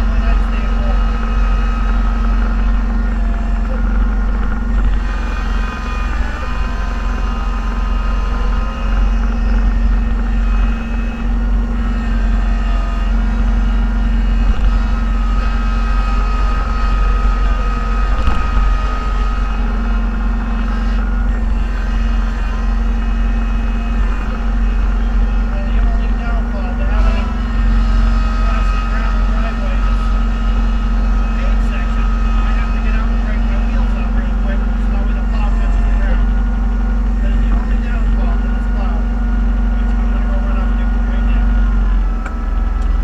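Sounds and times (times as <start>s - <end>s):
vehicle engine drone with whine: 0.0s - 43.0s.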